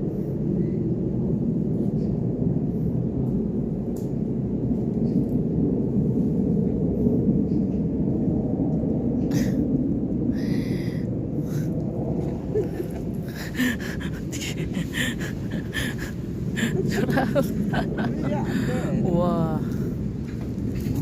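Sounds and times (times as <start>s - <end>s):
low rumbling noise: 0.0s - 21.0s.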